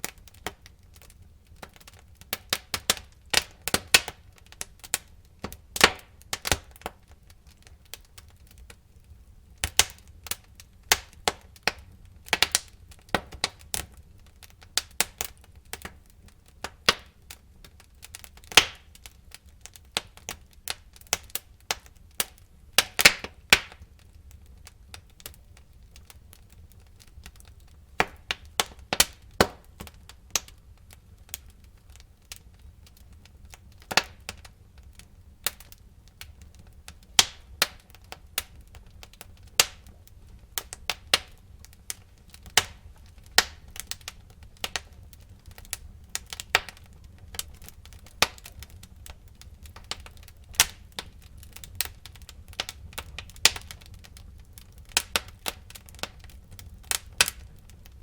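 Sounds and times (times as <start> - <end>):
burning logs popping and snapping: 0.0 - 58.0
low rumble of flames: 0.0 - 58.0.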